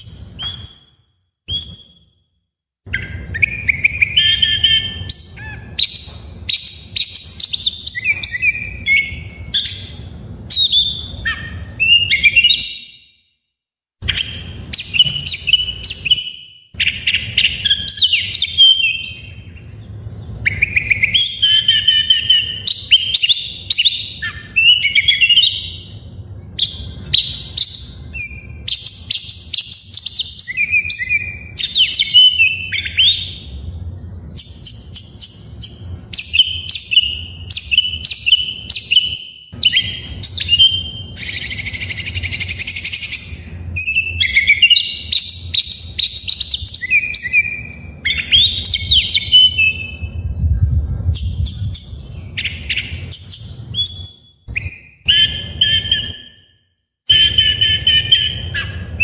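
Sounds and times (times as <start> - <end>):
bird singing whistled phrases: 0.0 - 2.2, 2.9 - 13.3, 14.0 - 33.6, 34.3 - 59.0
harsh buzzy bird trill: 0.0 - 13.3, 14.0 - 59.0.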